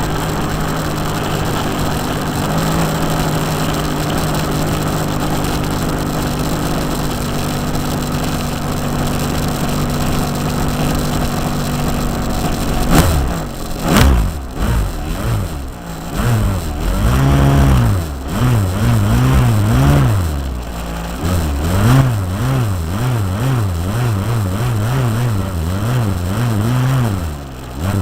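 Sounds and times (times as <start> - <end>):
model aircraft engine running: 0.0 - 28.0.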